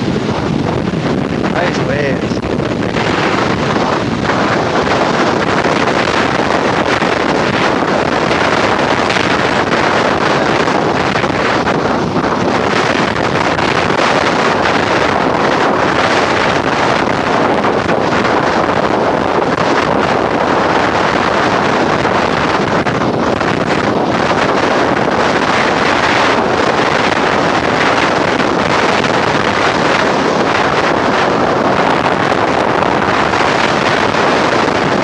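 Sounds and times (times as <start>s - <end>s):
heavy surf washing: 0.0s - 35.0s
wind buffeting microphone: 0.0s - 35.0s.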